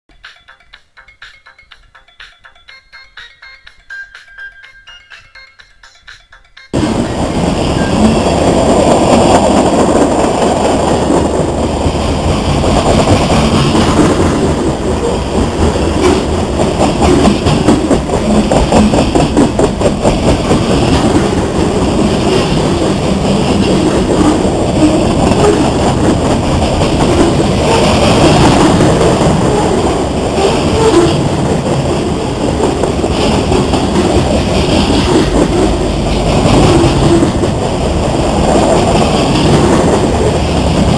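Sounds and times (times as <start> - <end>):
freight train wheels on rails: 6.1 - 40.9.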